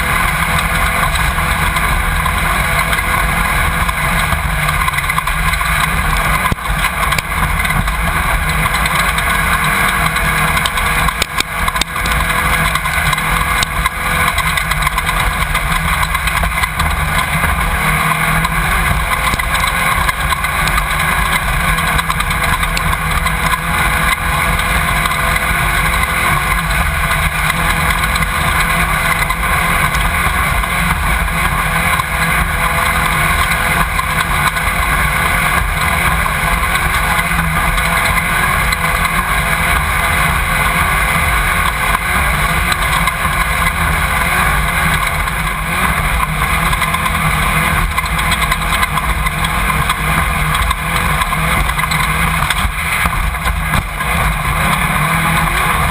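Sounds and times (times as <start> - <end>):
drivetrain noise: 0.0 - 55.9
race car engine roaring: 0.0 - 55.9.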